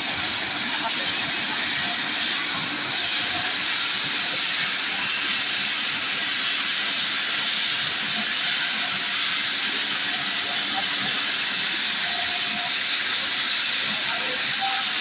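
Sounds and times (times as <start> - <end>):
production line machinery hiss: 0.0 - 15.0.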